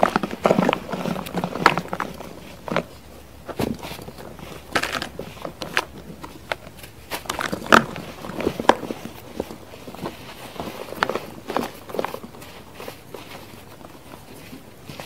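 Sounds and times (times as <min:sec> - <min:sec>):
soft crunches and crackles: 0:00.0 - 0:15.0.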